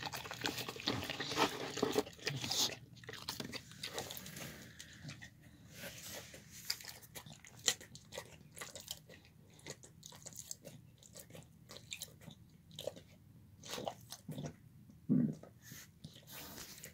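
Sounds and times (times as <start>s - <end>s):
dog chewing and crunching: 0.0s - 14.6s.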